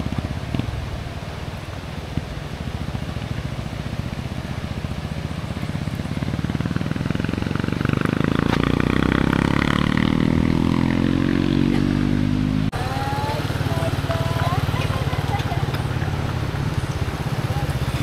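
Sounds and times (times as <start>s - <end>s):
small motorcycle engine running: 2.1s - 12.1s, 12.8s - 18.0s.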